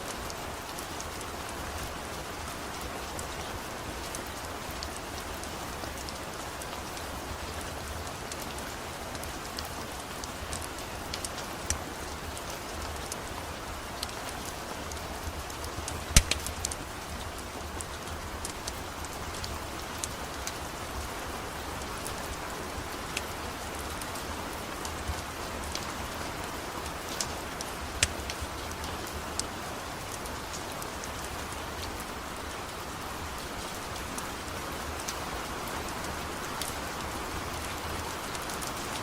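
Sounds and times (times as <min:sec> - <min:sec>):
rain hissing: 0:00.0 - 0:39.0
wood fire crackling: 0:04.0 - 0:35.6.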